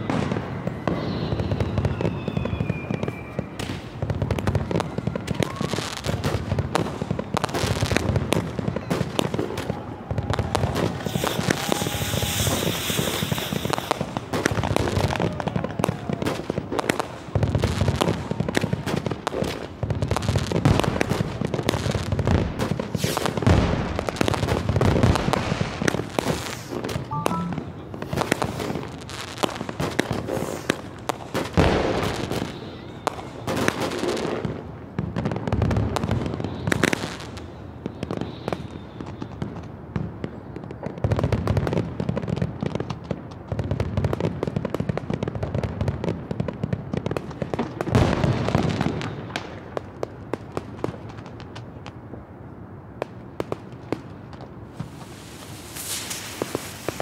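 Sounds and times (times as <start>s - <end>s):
fireworks booming: 0.0s - 52.3s, 53.0s - 57.0s
fireworks crackling: 0.0s - 57.0s.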